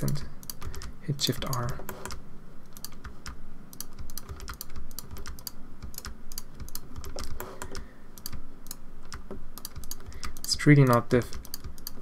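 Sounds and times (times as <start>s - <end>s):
keyboard and mouse clicking: 0.0s - 12.0s.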